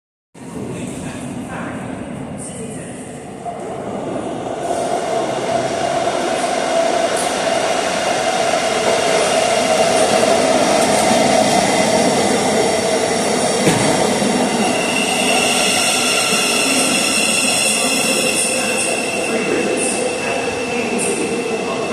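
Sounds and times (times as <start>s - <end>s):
train arriving rumble and hum: 0.4s - 21.9s.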